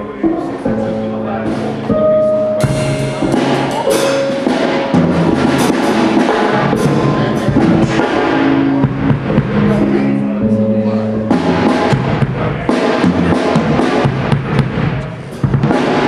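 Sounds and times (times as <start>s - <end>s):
bass guitar: 0.0s - 16.0s
drum kit beat: 0.0s - 16.0s
sustained pitched notes: 0.0s - 16.0s.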